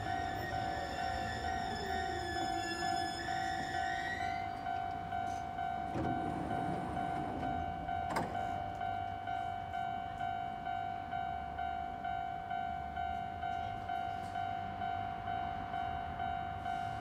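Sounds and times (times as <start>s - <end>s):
train low steady hum: 0.0s - 17.0s.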